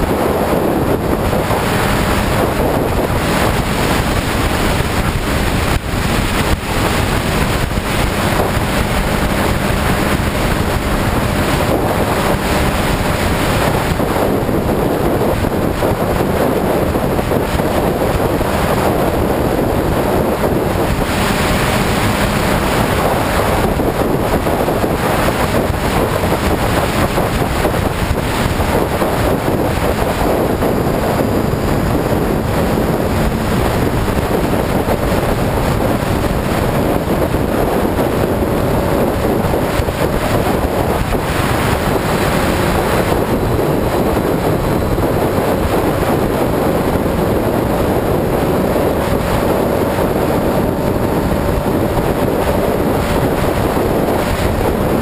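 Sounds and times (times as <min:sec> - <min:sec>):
motorcycle engine drone: 0:00.0 - 0:55.0
wind buffeting microphone: 0:00.0 - 0:55.0.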